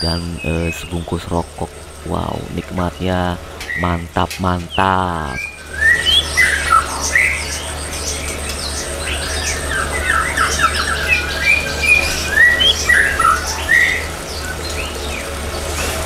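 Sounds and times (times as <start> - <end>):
small songbirds chirping: 0.0 - 16.0
steady low hum: 0.0 - 16.0.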